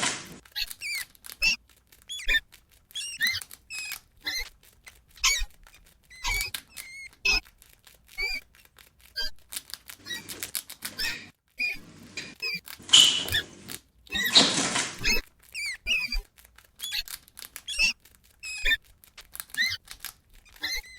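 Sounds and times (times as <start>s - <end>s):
rat squeaking: 0.0s - 20.9s.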